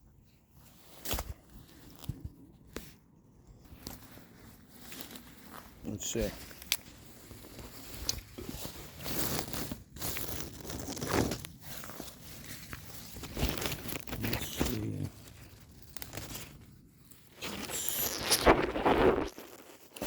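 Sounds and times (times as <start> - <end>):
plant stems rustling and tearing: 3.7 - 20.0.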